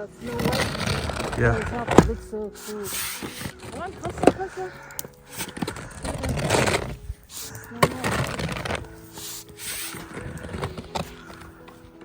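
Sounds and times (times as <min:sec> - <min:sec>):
faint background music: 0:00.0 - 0:12.0
snow being scraped: 0:00.0 - 0:12.0.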